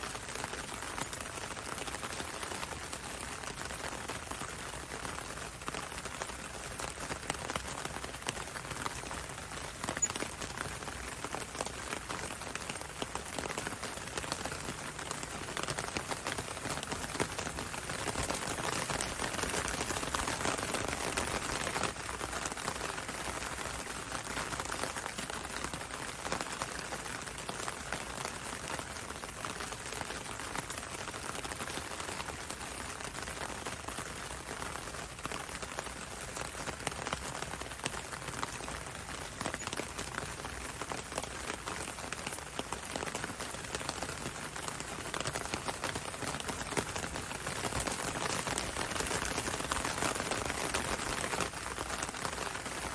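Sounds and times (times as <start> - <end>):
rain on a window and road: 0.0 - 52.9.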